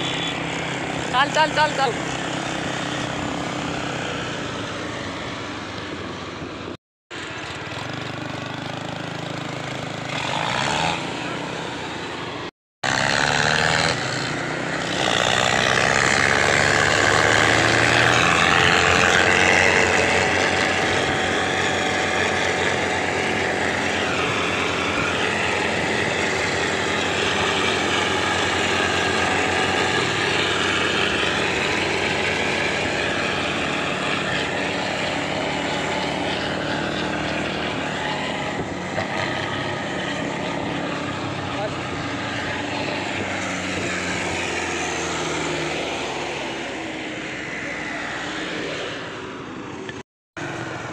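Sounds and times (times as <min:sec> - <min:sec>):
tractor diesel engines revving: 0:00.0 - 0:50.9.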